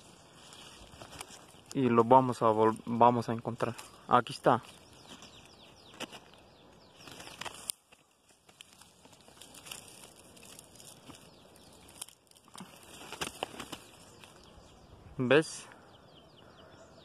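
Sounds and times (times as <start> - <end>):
leaves and twigs rustling: 0.0 - 15.2.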